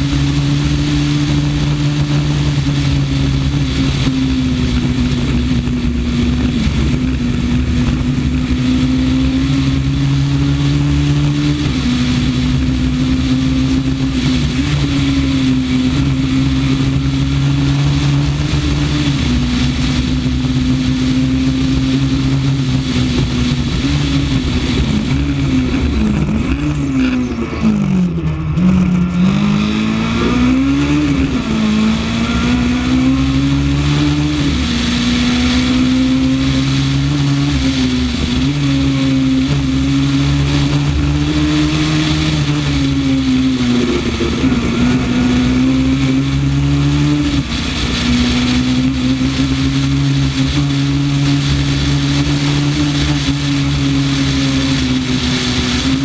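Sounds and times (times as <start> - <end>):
car engine at high revs: 0.0 - 56.0
road and wind noise: 0.0 - 56.0.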